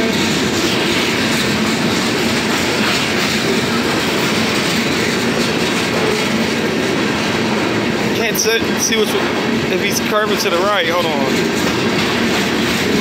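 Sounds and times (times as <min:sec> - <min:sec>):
train wheels running on rails: 0:00.0 - 0:13.0.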